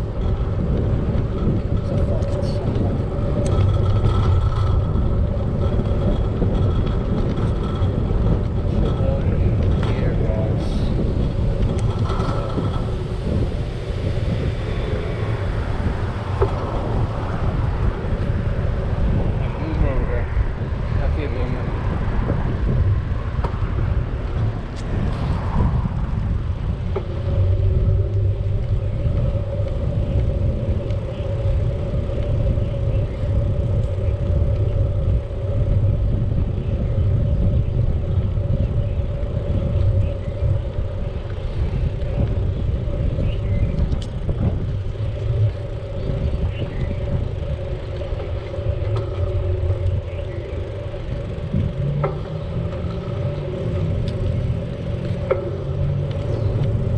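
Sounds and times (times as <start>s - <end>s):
wind rumbling over microphone: 0.0s - 56.9s.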